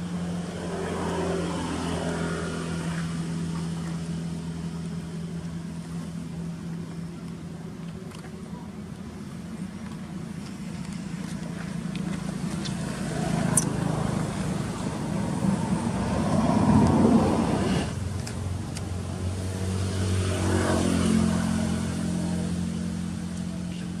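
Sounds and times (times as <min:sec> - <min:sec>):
vehicle engines passing: 0:00.0 - 0:24.0.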